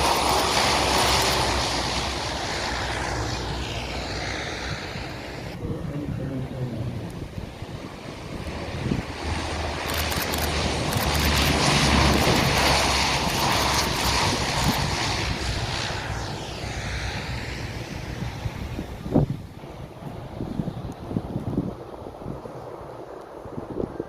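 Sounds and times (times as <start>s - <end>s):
jet aircraft flying past: 0.0s - 24.0s
wind buffeting microphone: 0.0s - 24.0s.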